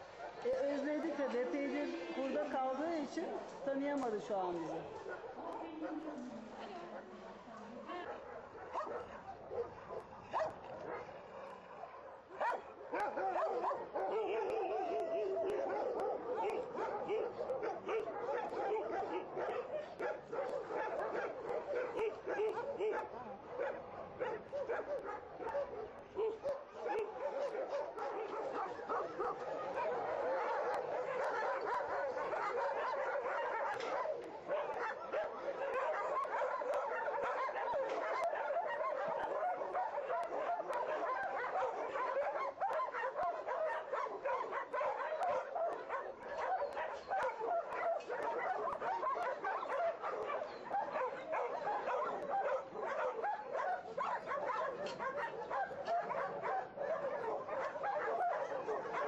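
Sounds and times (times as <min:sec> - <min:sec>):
dogs barking and yelping: 0:00.0 - 0:03.7, 0:04.6 - 0:59.0.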